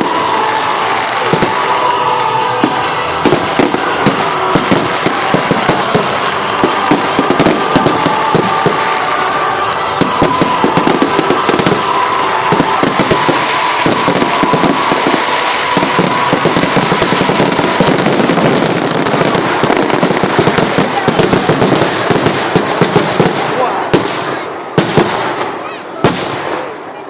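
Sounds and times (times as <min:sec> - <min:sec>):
music playing: 0:00.0 - 0:22.9
fireworks crackling and banging: 0:00.0 - 0:27.0.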